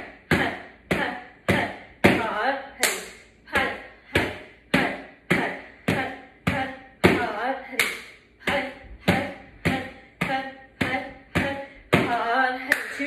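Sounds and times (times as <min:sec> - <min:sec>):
palms slapping yoga mat: 0:00.0 - 0:13.0.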